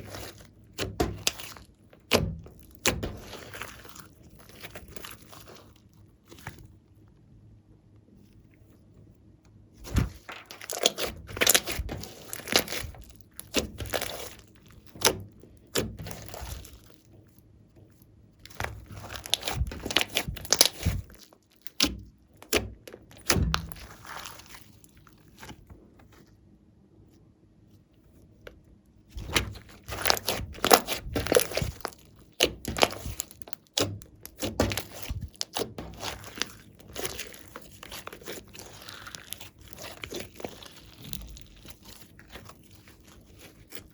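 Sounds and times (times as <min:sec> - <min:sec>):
slime squishing and crackling: 0:00.0 - 0:06.9, 0:09.8 - 0:26.3, 0:28.5 - 0:43.9.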